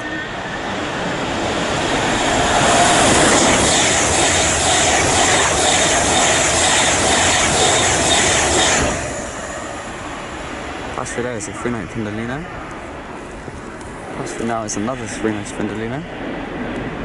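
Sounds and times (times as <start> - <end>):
electric train passing at speed: 0.0 - 17.0.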